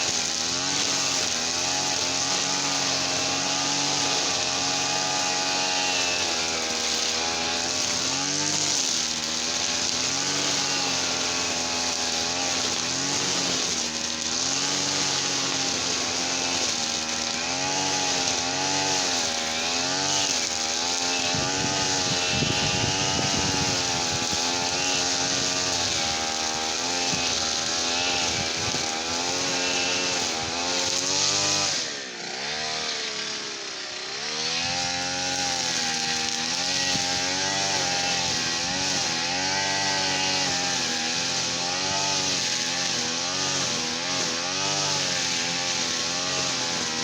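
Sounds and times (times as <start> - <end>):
brush cutter engine running: 0.0 - 47.0.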